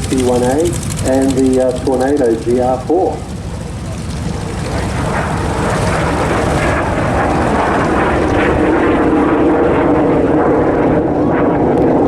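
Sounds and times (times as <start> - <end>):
propeller plane engine: 0.0 - 12.0.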